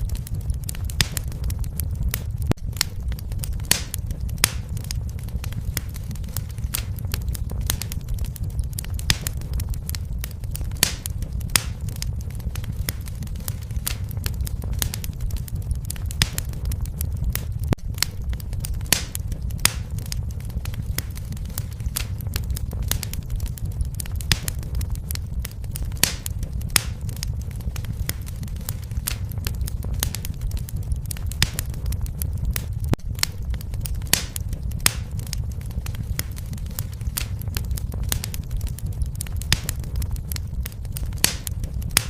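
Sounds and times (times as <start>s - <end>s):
low rumble of flames: 0.0s - 42.0s
wood fire crackling: 0.0s - 42.0s.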